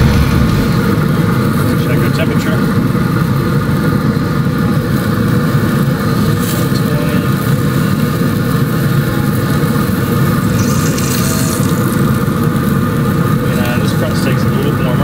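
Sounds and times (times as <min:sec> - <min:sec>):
blower motor hum: 0:00.0 - 0:15.0
pellet fire roaring: 0:00.0 - 0:15.0.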